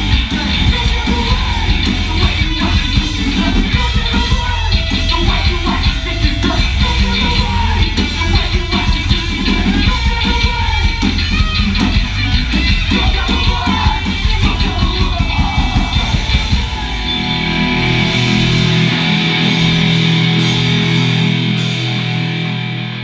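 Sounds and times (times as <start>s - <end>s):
fast drums: 0.0s - 22.7s
distorted electric guitars: 0.0s - 23.0s
punk band playing live: 0.0s - 23.0s.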